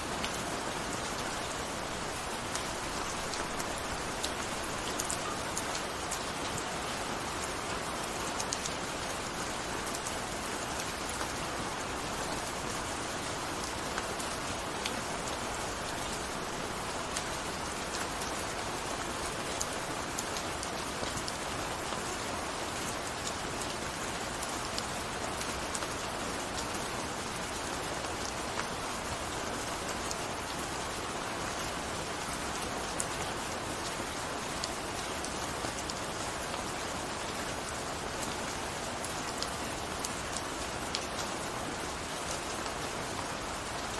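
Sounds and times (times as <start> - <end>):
gentle rain pattering: 0.0 - 43.9.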